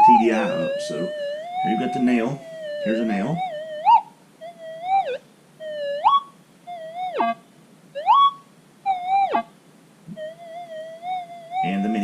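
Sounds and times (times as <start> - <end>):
metal detector warbling tones: 0.0 - 7.4, 8.0 - 9.5, 10.1 - 12.0.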